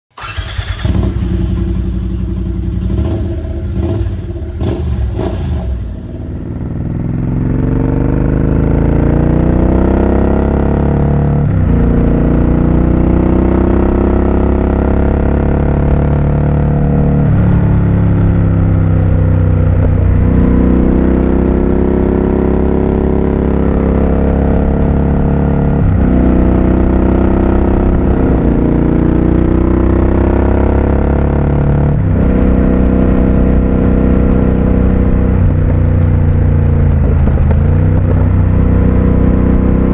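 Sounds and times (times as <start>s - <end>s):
motorcycle engine accelerating: 0.1s - 39.9s.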